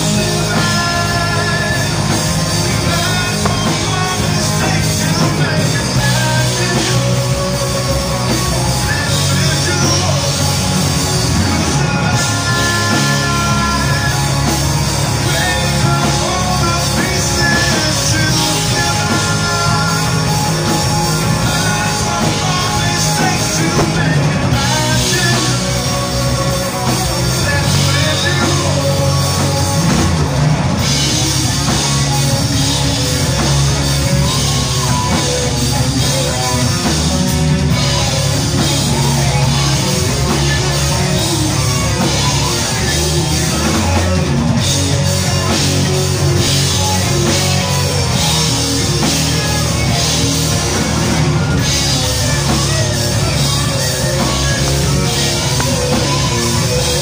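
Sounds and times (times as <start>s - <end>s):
live rock band playing: 0.0s - 57.0s
man singing: 0.0s - 57.0s.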